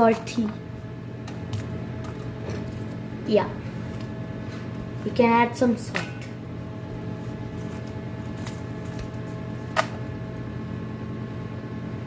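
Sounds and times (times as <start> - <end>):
popcorn machine motor hum: 0.0 - 12.0.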